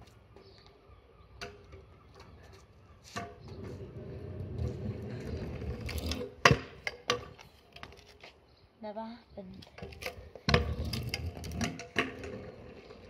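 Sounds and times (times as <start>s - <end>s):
kick scooter wheels rolling: 0.0s - 8.4s, 9.6s - 13.0s.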